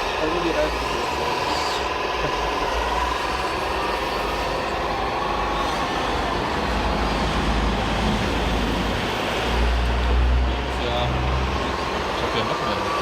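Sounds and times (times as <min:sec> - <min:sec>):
model trucks mechanical drone: 0:00.0 - 0:13.0.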